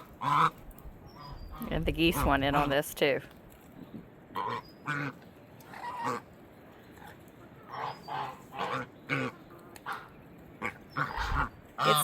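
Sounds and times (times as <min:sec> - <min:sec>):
geese honking: 0:00.0 - 0:02.8, 0:04.3 - 0:06.3, 0:07.0 - 0:12.0.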